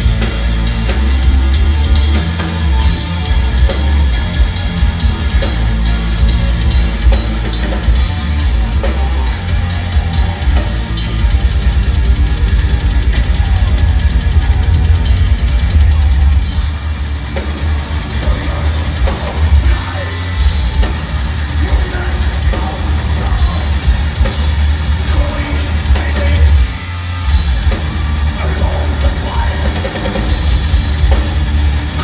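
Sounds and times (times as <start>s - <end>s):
bass guitar: 0.0s - 32.0s
distorted electric guitars: 0.0s - 32.0s
drum kit with heavy bass drum: 0.0s - 32.0s.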